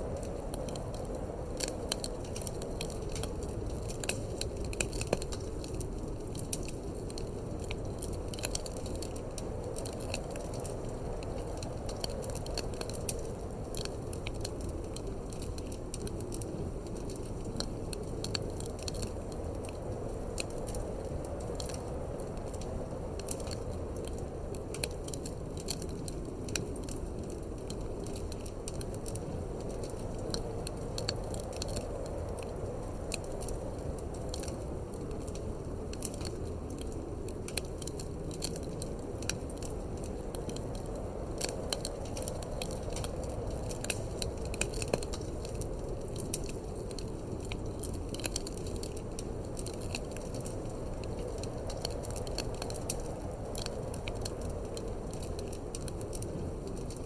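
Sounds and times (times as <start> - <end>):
low rush of wind: 0.0 - 57.0
wood fire crackling and popping: 0.0 - 57.0.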